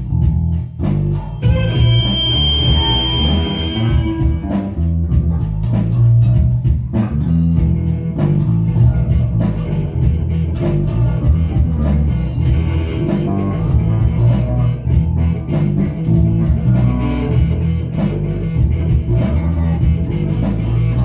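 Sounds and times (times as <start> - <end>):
electric guitar: 0.0 - 21.0
heavy bass guitar: 0.0 - 21.0.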